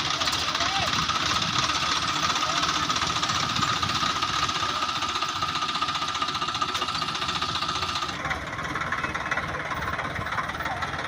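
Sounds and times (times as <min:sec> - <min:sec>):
diesel tractor engine knocking: 0:00.0 - 0:11.0
high engine whine: 0:00.0 - 0:11.0.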